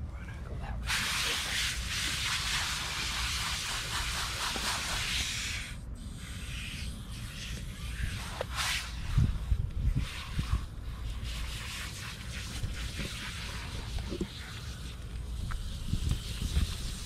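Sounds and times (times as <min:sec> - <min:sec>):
hose nozzle spray hissing: 0:00.8 - 0:17.0.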